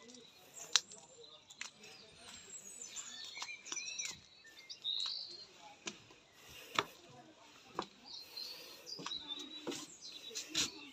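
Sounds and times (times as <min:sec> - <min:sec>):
footsteps on wooden decking: 0:00.0 - 0:10.9
small birds chirping: 0:00.0 - 0:10.9.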